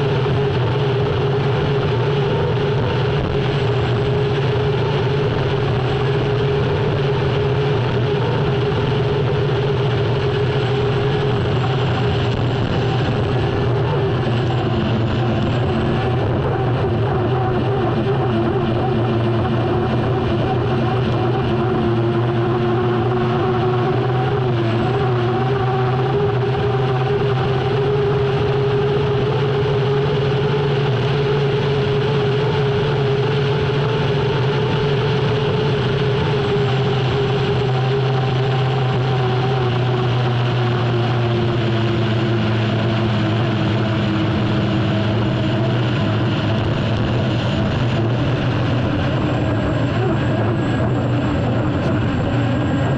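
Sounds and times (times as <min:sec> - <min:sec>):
loud rushing noise: 0:00.0 - 0:52.9
turbine engine whine: 0:00.0 - 0:52.9.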